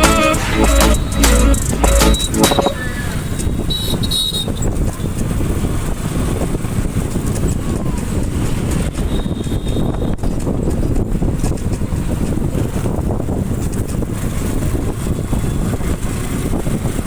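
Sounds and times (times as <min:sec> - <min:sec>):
motorcycle engine and road rumble: 0:01.0 - 0:17.0
wind buffeting microphone: 0:02.6 - 0:17.0.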